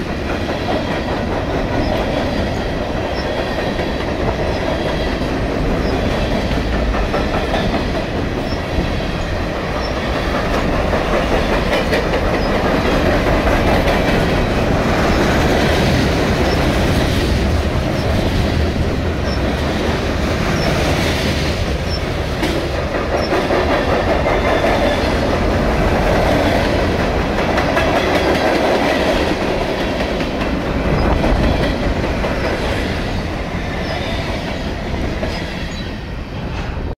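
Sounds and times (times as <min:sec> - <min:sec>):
wheels clicking over rail joints: 0:00.0 - 0:36.9
train wheels rumbling on rails: 0:00.0 - 0:37.0.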